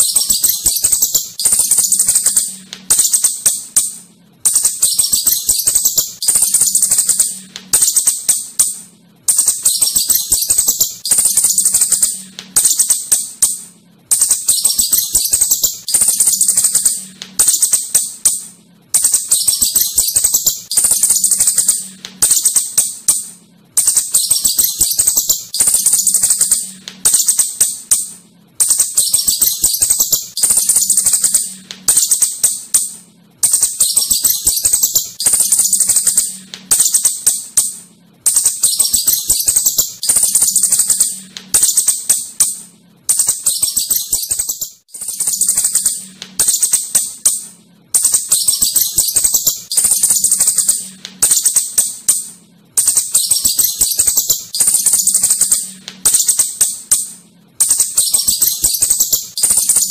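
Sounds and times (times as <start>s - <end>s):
shrew chittering calls: 0.0s - 3.6s, 4.5s - 8.7s, 9.3s - 18.1s, 19.0s - 23.2s, 23.8s - 28.0s, 28.6s - 37.7s, 38.3s - 42.2s, 43.1s - 47.4s, 48.0s - 52.2s, 52.8s - 56.7s, 57.6s - 59.9s.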